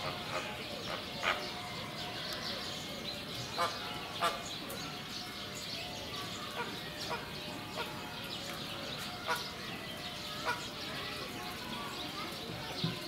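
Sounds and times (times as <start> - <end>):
sharp bird calls: 0.0 - 13.0.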